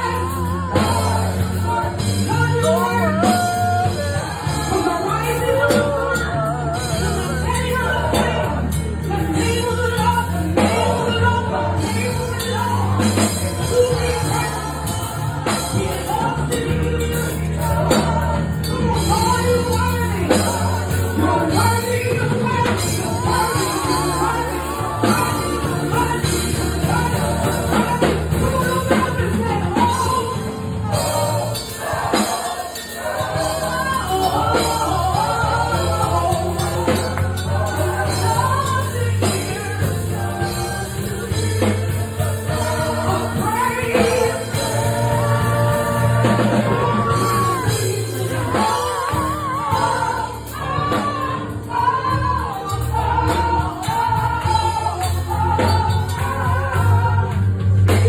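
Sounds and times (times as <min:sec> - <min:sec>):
gospel choir singing: 0:00.0 - 0:58.0
instrumental accompaniment with bass: 0:00.0 - 0:58.0.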